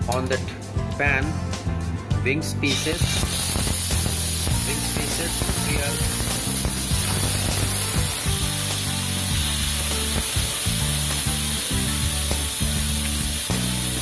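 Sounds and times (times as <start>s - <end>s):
chicken sizzling in frying pan: 2.7s - 14.0s.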